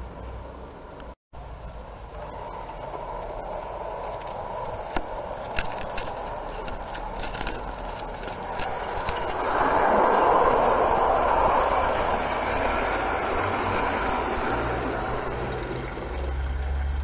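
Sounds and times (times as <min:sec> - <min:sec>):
wheels clicking on rails: 0:00.0 - 0:17.0
model train rolling hum: 0:01.4 - 0:17.0.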